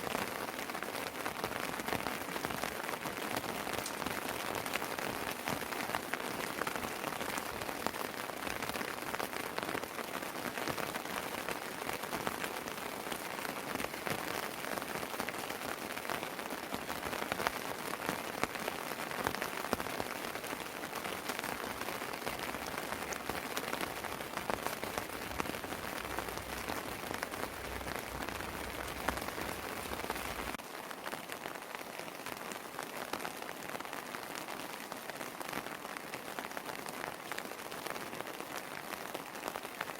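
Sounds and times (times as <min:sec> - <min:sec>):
rain pattering on terrace: 0:00.0 - 0:39.9.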